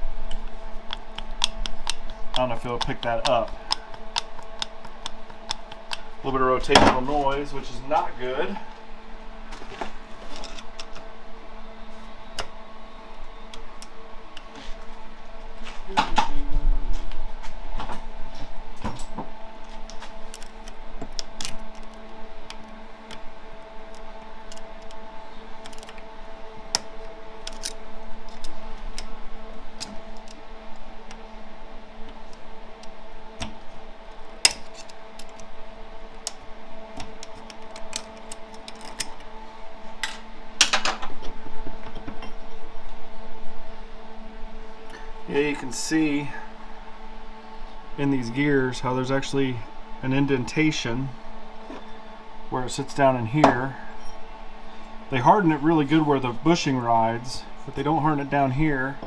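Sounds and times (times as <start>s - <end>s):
steady background hum: 0.0s - 59.0s.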